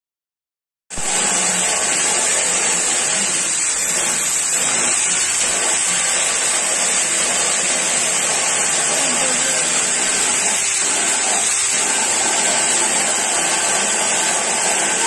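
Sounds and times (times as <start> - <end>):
electric drill spinning: 1.0 - 15.0.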